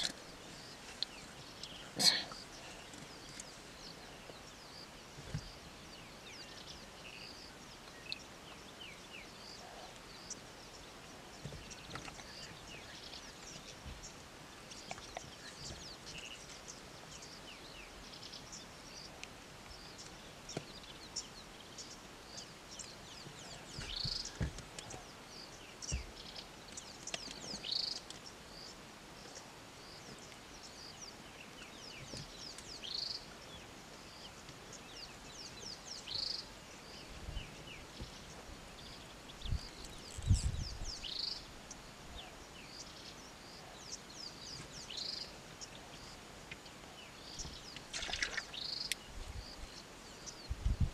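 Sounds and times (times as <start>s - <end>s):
birds chirping: 0.0s - 50.9s
steady outdoor hiss: 0.0s - 50.9s.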